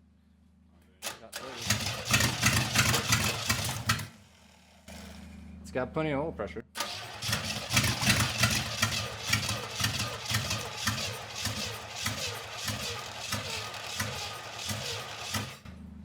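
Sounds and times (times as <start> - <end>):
engine running roughly: 1.4 - 5.6, 6.8 - 16.0.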